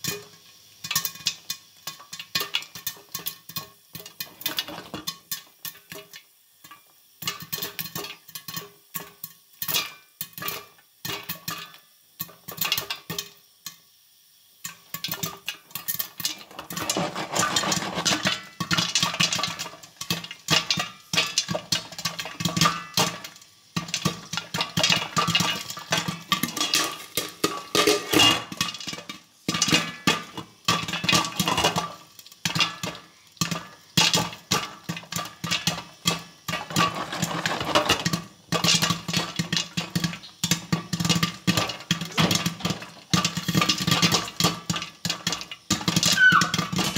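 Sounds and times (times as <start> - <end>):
popcorn popping in a pot: 0.0 - 46.9.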